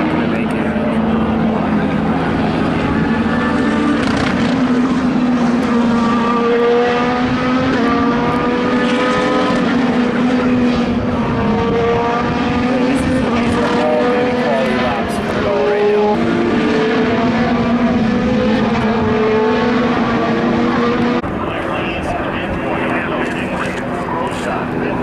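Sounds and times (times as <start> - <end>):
race car engine at high revs: 0.0 - 25.0.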